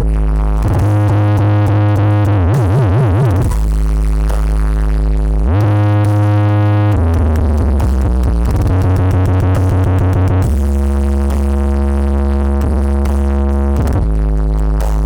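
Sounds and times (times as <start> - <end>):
deep synth bass notes: 0.0 - 15.0.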